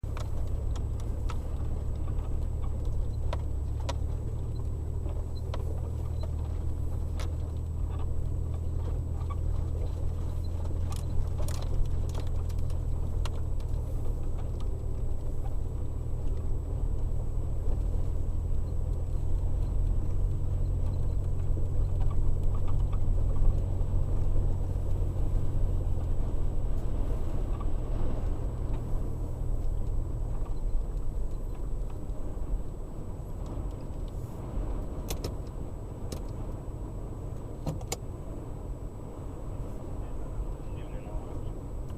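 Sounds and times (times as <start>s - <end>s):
light clicks and rattles: 0.0s - 38.4s.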